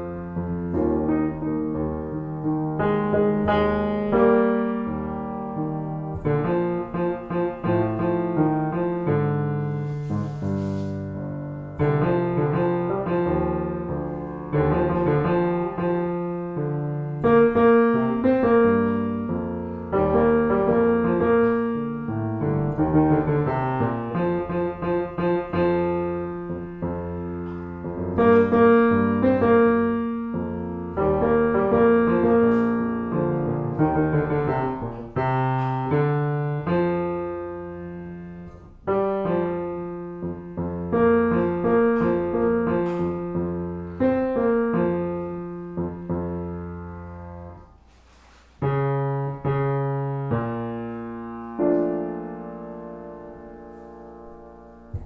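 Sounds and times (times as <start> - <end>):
solo piano chords: 0.0 - 55.0.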